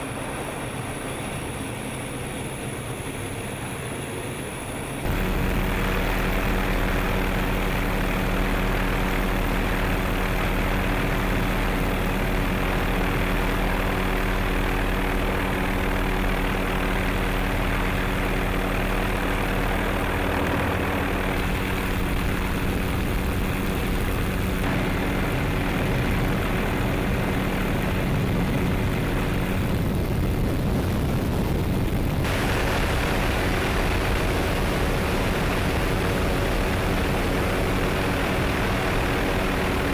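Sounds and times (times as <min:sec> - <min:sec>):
helicopter rotors and engine drone: 0:00.0 - 0:39.9.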